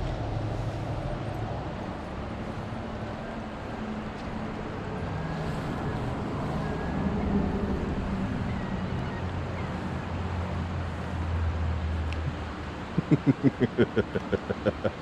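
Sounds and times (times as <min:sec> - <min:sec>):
low engine hum: 0:00.0 - 0:15.0
wash of noise: 0:00.0 - 0:15.0.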